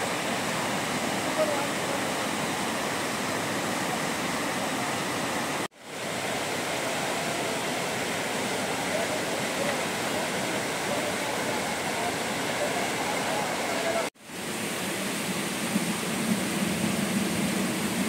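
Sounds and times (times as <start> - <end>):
water rushing over boulders: 0.0 - 18.0.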